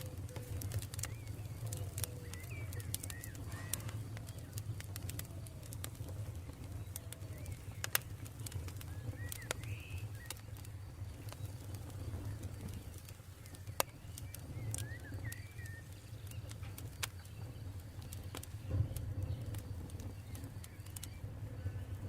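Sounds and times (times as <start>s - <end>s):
bird chirping: 0.0s - 5.2s, 6.2s - 21.8s
campfire crackling and popping: 0.0s - 22.0s.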